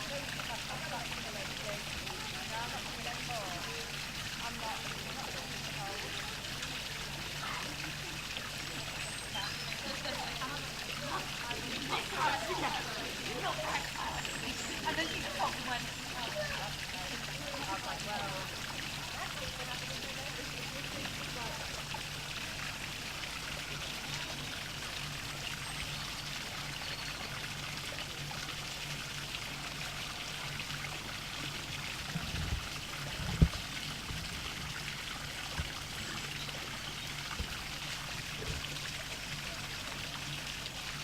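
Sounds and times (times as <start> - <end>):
small waterfall splashing: 0.0 - 41.0.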